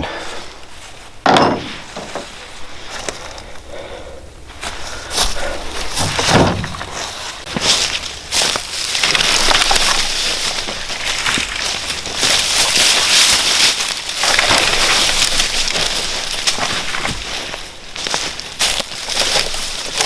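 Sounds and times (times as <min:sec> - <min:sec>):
crunching in dry forest litter: 0:00.0 - 0:20.0.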